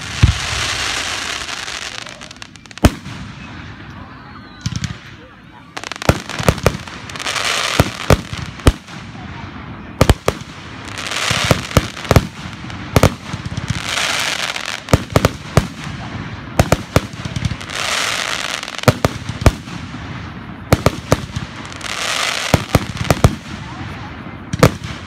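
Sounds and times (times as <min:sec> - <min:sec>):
firework hissing: 0:00.0 - 0:23.9.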